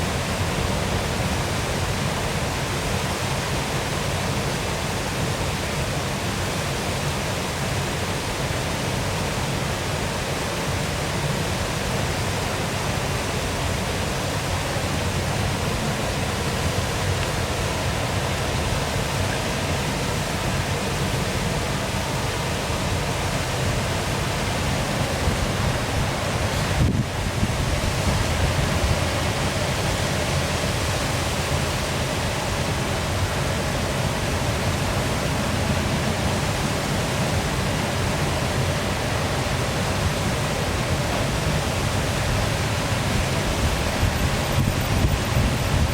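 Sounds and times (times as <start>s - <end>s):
water pouring over waterfall: 0.0s - 45.9s.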